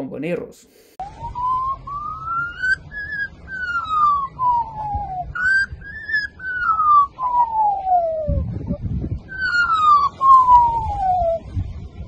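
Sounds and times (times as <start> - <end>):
magpie mimicking a siren: 1.0 - 11.5.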